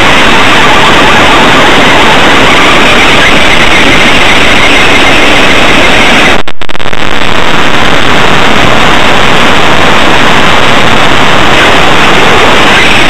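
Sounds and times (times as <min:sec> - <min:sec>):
distorted static noise: 0:00.0 - 0:13.0.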